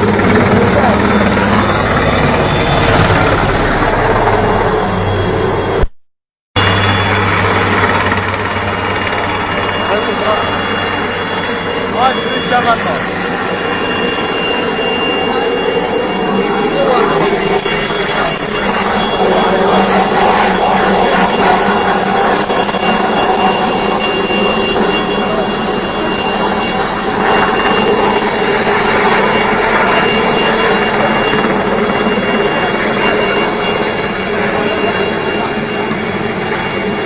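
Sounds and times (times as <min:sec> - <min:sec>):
helicopter rotor drone: 0:00.0 - 0:05.9, 0:06.6 - 0:37.0
high-pitched turbine whine: 0:00.0 - 0:06.0, 0:06.6 - 0:37.0.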